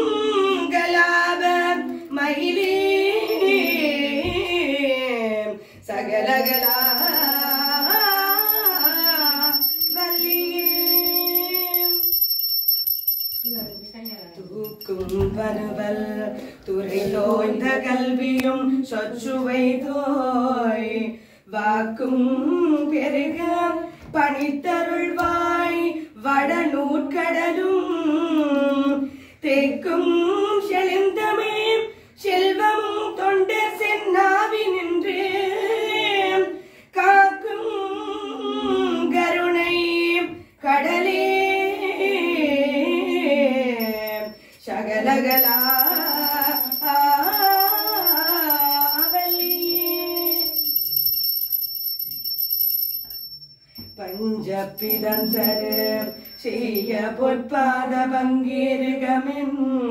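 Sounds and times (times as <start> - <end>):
women singing a hymn: 0.0 - 12.2, 13.4 - 51.1, 53.8 - 59.9.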